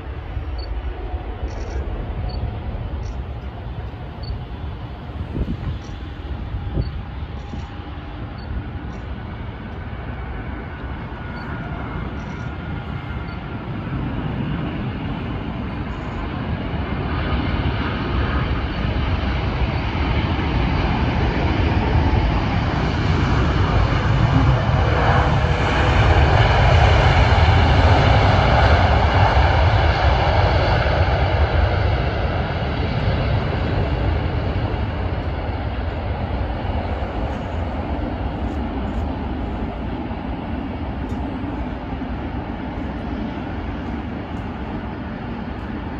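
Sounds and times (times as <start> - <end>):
jet engines rumbling with whine: 0.0 - 45.9.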